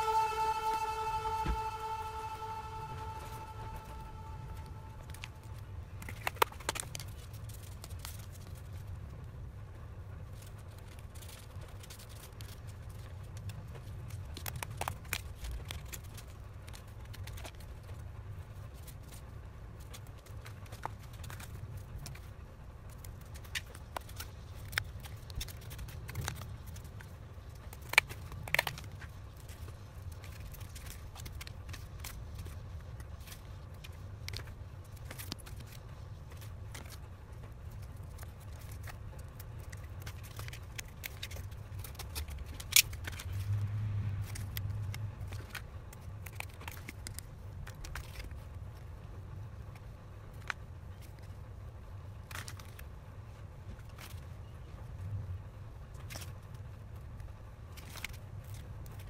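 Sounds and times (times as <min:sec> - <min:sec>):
low background rumble: 0:00.0 - 0:59.0.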